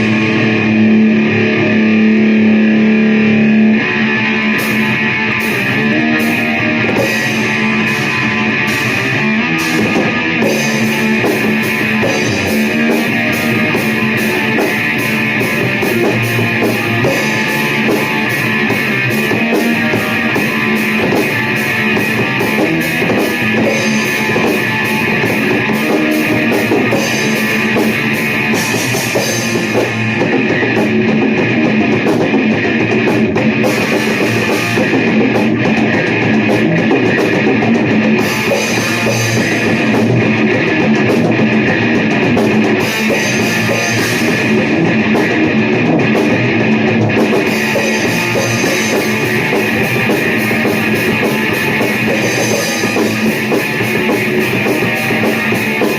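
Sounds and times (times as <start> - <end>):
distorted electric guitars: 0.0 - 55.9
fast drumming on drum kit: 0.0 - 55.9
heavy rock music: 0.0 - 55.9.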